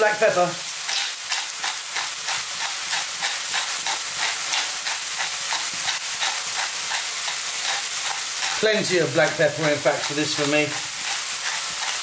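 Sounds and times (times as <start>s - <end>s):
onions sizzling in oil: 0.0s - 12.0s
pepper mill grinding: 0.0s - 12.0s.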